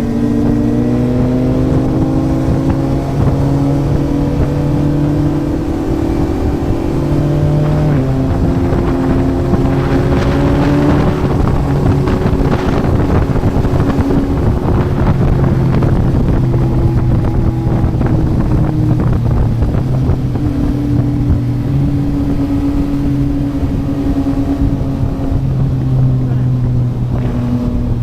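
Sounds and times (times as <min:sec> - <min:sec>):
motorcycle engine running: 0:00.0 - 0:28.0
wind on microphone: 0:00.0 - 0:28.0.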